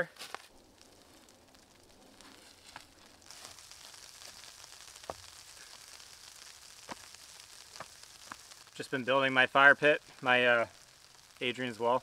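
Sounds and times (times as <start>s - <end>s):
light rain on leaf litter: 0.0s - 12.0s.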